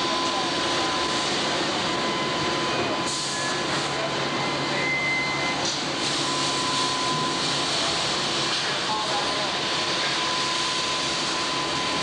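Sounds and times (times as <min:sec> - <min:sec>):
thin steady whine: 0:00.0 - 0:12.0.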